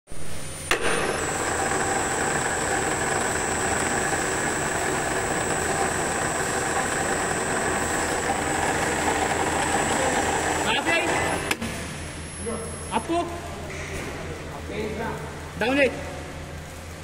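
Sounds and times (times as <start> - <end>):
machinery low hum: 0.1 - 17.0.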